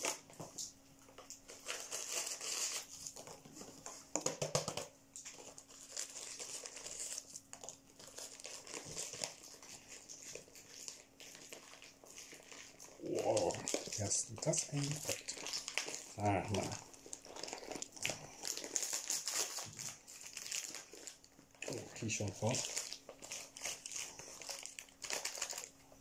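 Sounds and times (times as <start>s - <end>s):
wrapping crinkling and rustling: 0.0s - 26.0s.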